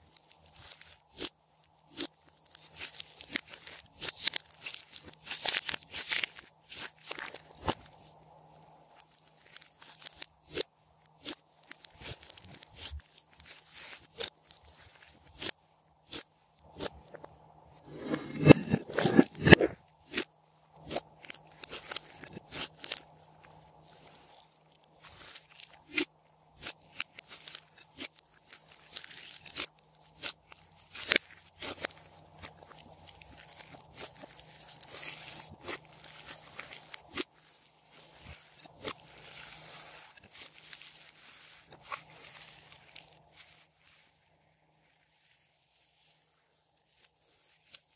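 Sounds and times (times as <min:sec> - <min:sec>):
slime squeezed with pops and crackles: 0:00.0 - 0:08.0, 0:08.9 - 0:16.9, 0:20.0 - 0:43.6.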